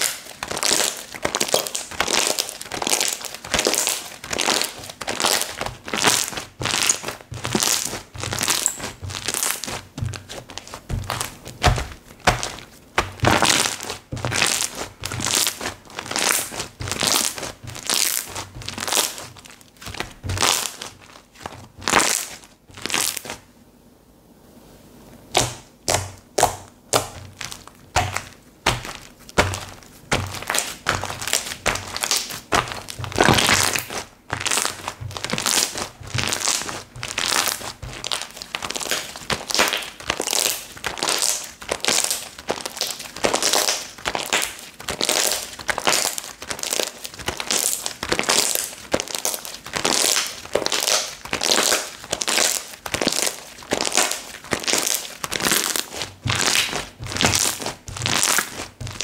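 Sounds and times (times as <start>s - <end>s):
slime squishing by hand: 0.0s - 23.5s, 25.2s - 59.0s.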